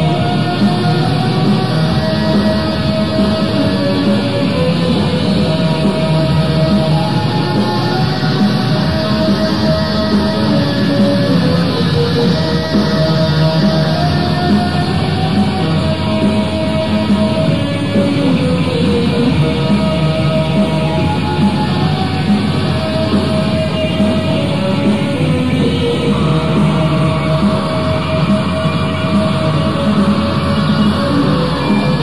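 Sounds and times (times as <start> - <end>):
distorted electric guitar metal: 0.0 - 32.0.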